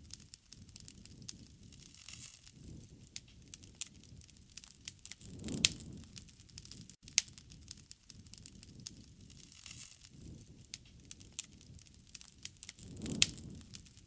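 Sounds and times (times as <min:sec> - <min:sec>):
rush of flames: 0:00.0 - 0:14.0
wood fire crackling and popping: 0:00.0 - 0:14.0.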